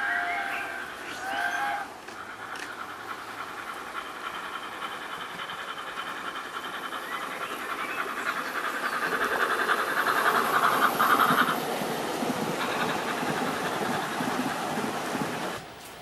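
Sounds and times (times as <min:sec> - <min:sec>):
model train running on track: 0:00.0 - 0:16.0
model train steam exhaust beats: 0:00.0 - 0:16.0.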